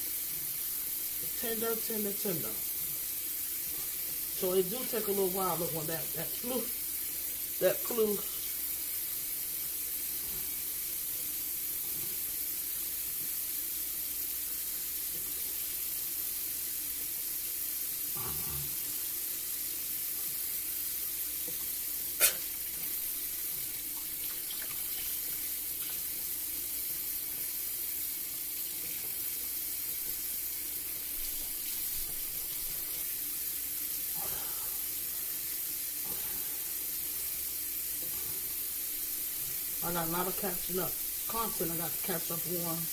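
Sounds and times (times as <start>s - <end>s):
rinsing meat by hand: 0.0s - 42.9s.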